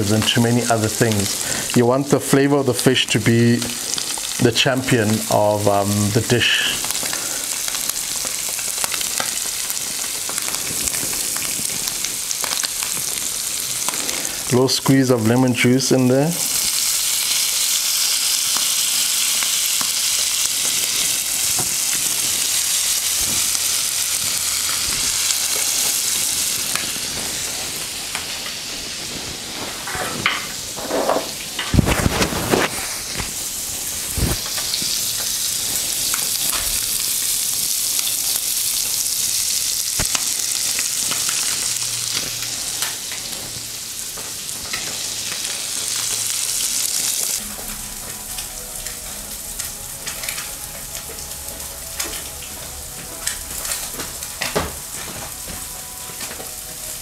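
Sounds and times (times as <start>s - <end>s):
fish sizzling in a pan: 0.0s - 57.0s.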